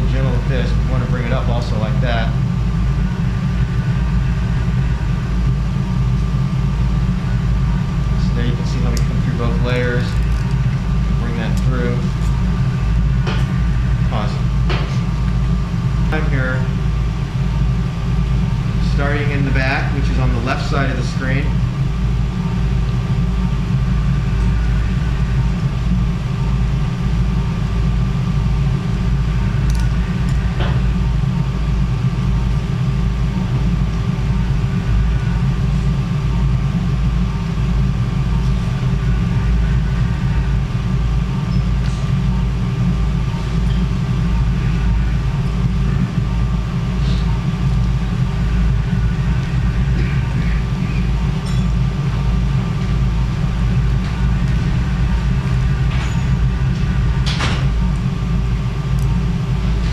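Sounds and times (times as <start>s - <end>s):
low rumbling machinery hum: 0.0s - 59.9s.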